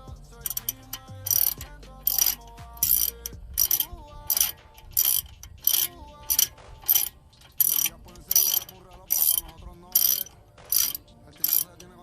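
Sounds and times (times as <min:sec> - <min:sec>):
hand ratchet clicking: 0:00.4 - 0:12.0.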